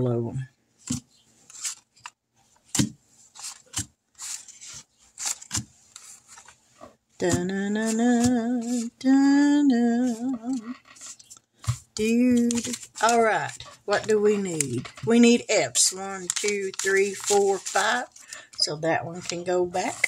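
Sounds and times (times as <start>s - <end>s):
paper bills rustling: 0.8s - 6.7s, 7.8s - 9.0s, 10.0s - 20.0s.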